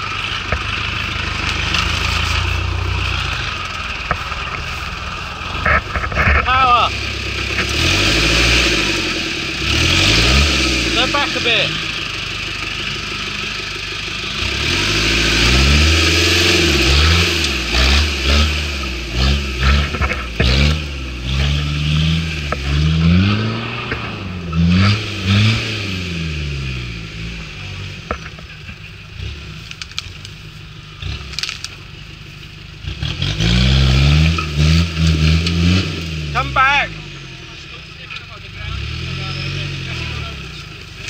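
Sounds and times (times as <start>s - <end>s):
pickup truck engine revving: 0.0s - 41.0s.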